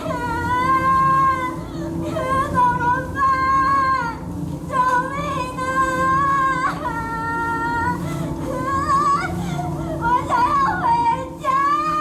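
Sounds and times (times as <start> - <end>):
high singing voice: 0.0 - 12.0.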